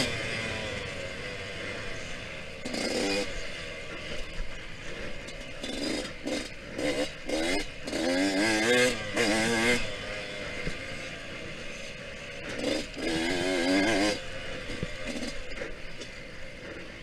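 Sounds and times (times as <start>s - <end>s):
dirt bike engine revving: 0.0s - 17.0s
steady rushing noise: 0.0s - 17.0s.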